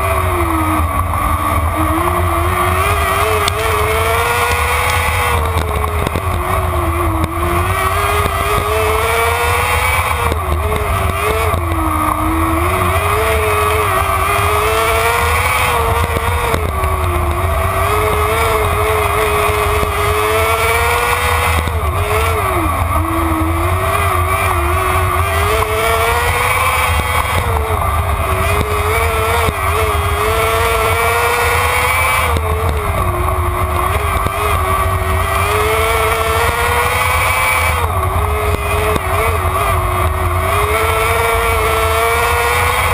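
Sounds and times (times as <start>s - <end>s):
race car engine: 0.0s - 42.9s.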